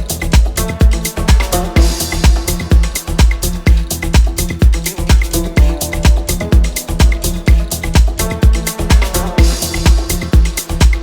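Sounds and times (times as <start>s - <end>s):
hi-hat ticks: 0.0s - 11.0s
kick drum: 0.0s - 11.0s
sustained synth notes: 0.0s - 11.0s.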